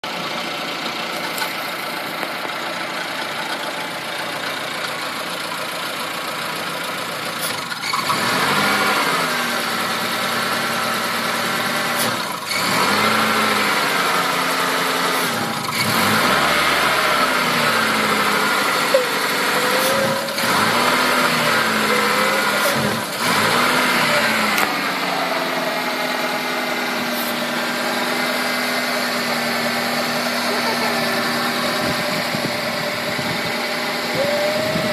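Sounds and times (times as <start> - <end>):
car engine running with misfire: 0.0 - 34.9.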